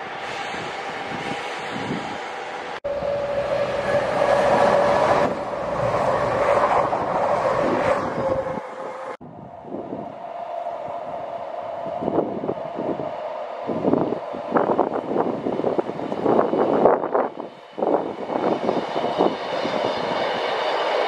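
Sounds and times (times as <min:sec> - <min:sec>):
diesel train passing with whine: 0:00.0 - 0:21.0
wind on microphone: 0:00.1 - 0:02.2, 0:02.8 - 0:21.0.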